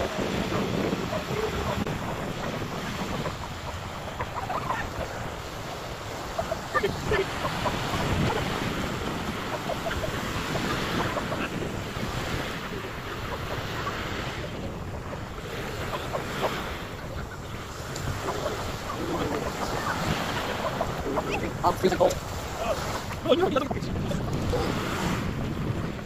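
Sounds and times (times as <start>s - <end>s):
sea surf washing on beach: 0.0s - 26.0s
wind blowing across microphone: 0.0s - 26.0s.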